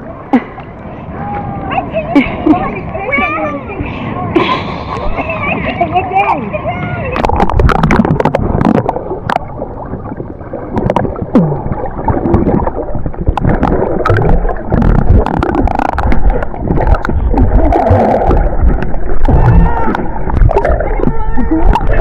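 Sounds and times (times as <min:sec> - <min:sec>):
muffled underwater sloshing: 0:00.0 - 0:22.0.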